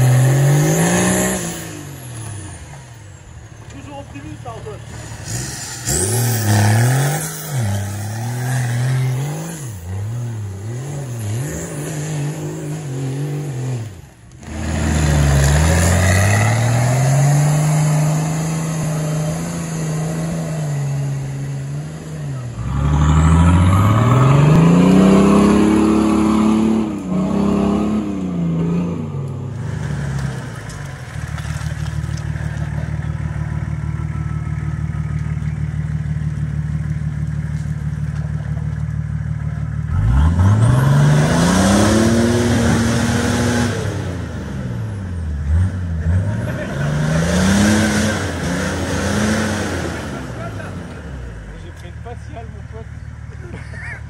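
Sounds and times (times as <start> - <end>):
off-road engines revving: 0.0 - 54.0.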